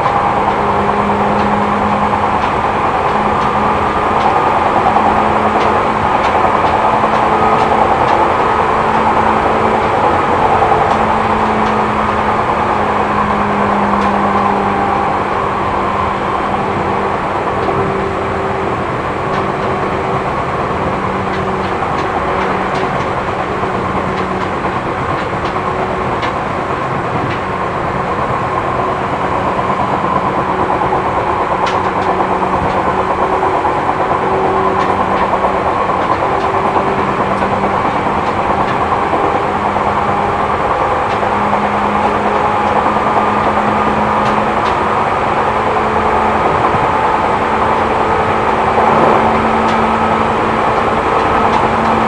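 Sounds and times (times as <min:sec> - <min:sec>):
train motor and gear hum: 0:00.0 - 0:52.0
train wheels rumbling on rail: 0:00.0 - 0:52.0.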